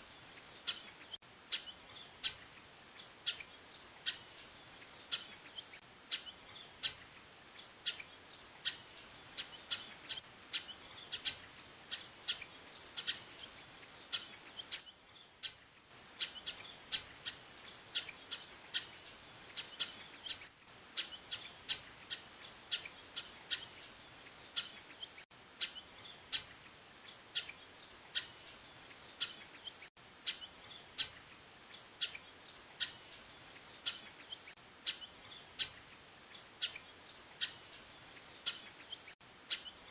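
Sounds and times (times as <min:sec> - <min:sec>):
bird calling: 0:00.0 - 0:15.6, 0:16.2 - 0:39.9.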